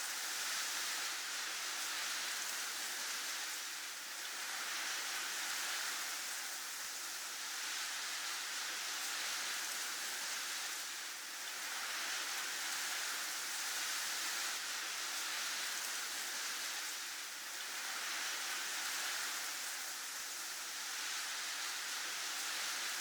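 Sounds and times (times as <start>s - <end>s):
wind and blowing snow hiss: 0.0s - 23.0s.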